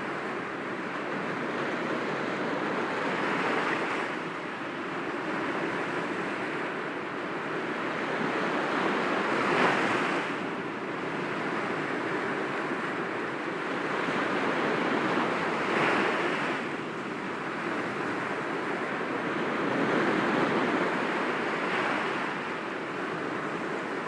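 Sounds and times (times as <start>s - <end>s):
larger waves breaking: 0.0s - 24.0s.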